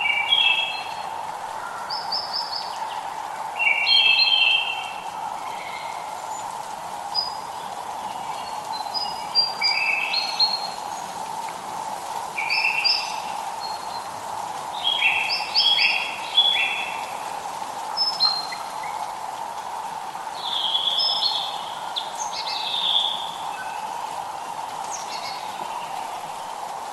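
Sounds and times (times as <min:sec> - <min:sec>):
light rain hissing: 0:00.0 - 0:26.9
songbirds chirping: 0:00.0 - 0:26.9.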